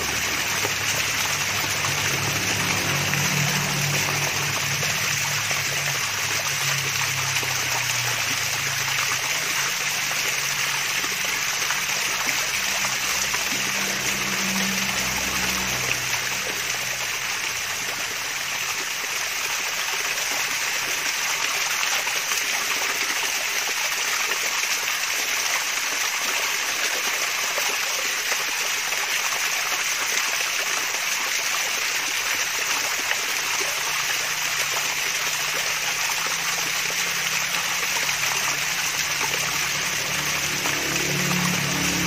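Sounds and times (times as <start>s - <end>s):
small waterfall splashing: 0.0s - 42.0s.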